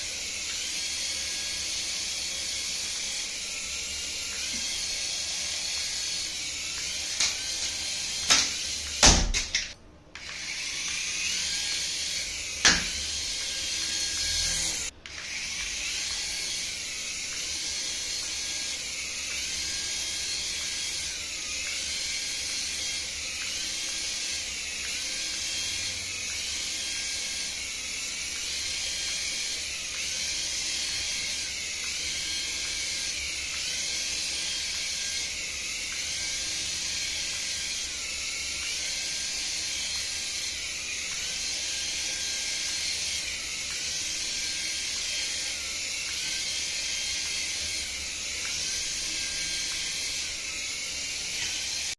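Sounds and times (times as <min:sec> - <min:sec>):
toy electronic hiss: 0:00.0 - 0:51.9.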